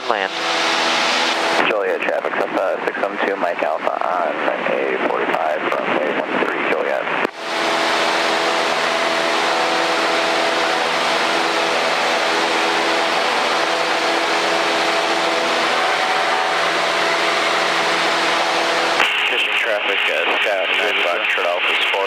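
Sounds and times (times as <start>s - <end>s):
airplane engine and propeller: 0.0s - 22.0s.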